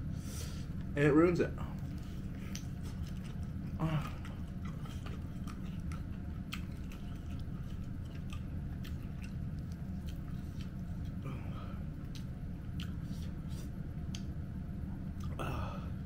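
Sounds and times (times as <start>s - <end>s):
steady low hum: 0.0s - 16.0s
person chewing and eating: 1.6s - 16.0s.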